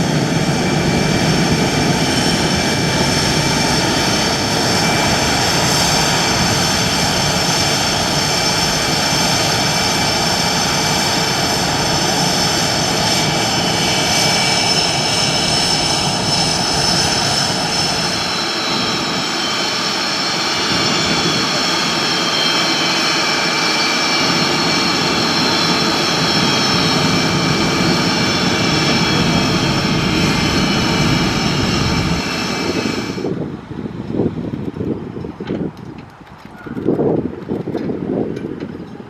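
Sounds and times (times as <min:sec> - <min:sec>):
turbine engines whining: 0:00.0 - 0:39.0.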